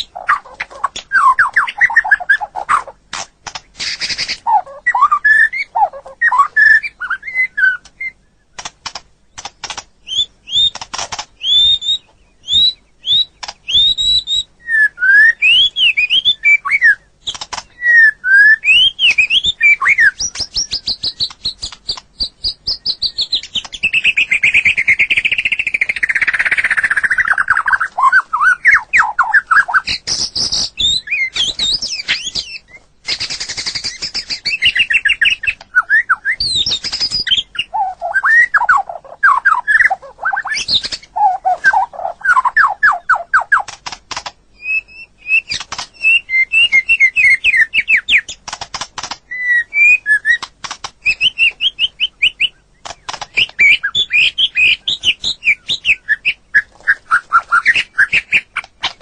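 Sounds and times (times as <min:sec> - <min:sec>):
bird singing whistled notes: 0:00.0 - 0:02.9, 0:03.8 - 0:08.6, 0:09.4 - 0:10.8, 0:11.4 - 0:43.7, 0:44.6 - 0:48.4, 0:49.3 - 0:58.7.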